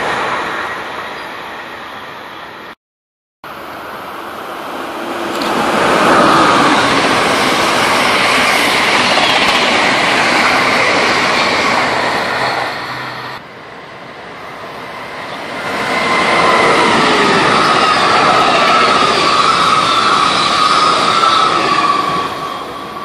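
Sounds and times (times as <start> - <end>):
train passing at speed: 0.0 - 2.8, 3.5 - 23.0.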